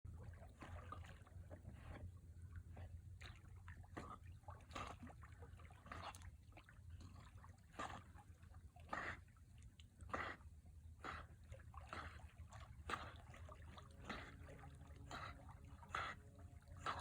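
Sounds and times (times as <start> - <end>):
dog paddling in water: 0.1 - 17.0
low steady rumble: 0.1 - 17.0.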